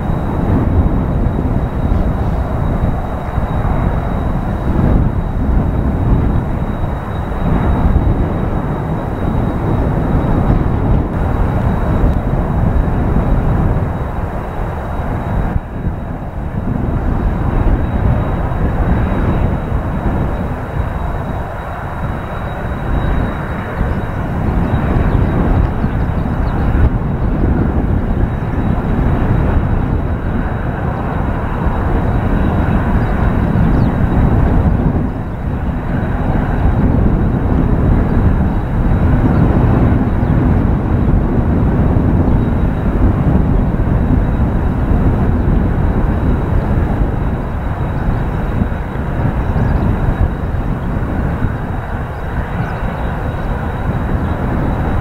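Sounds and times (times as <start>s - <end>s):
jet engines running with whine: 0.0s - 55.0s
wind buffeting microphone: 0.0s - 55.0s.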